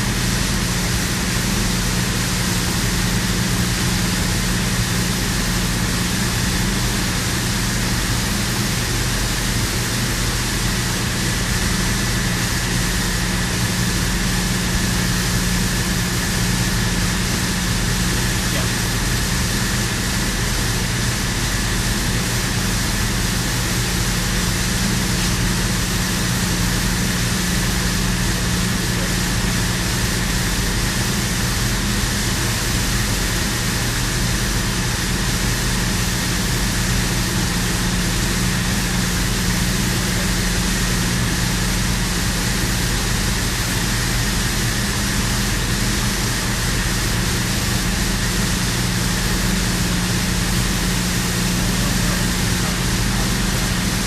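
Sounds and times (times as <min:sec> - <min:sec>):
industrial machinery drone: 0:00.0 - 0:54.0.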